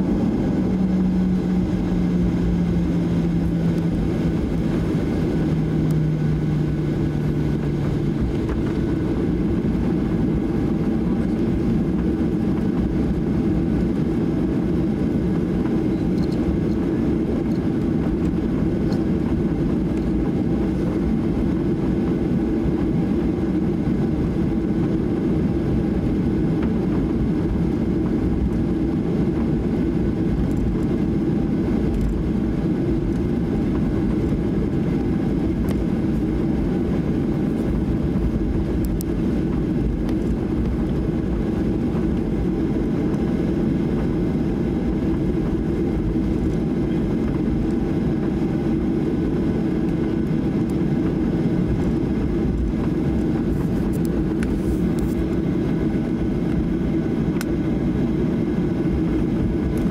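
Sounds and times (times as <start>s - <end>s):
airplane cabin noise: 0.0s - 59.9s
low hum: 0.0s - 59.9s.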